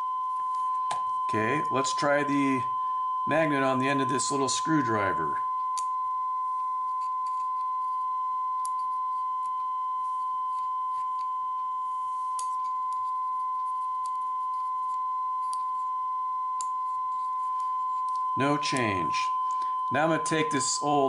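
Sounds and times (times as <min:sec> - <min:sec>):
sine-wave test tone: 0:00.0 - 0:21.0.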